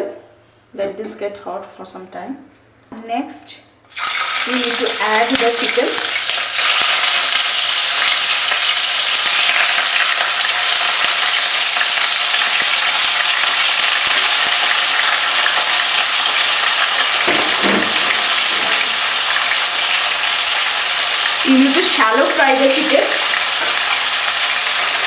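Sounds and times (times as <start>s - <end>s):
chicken sizzling in hot oil: 3.9s - 25.0s.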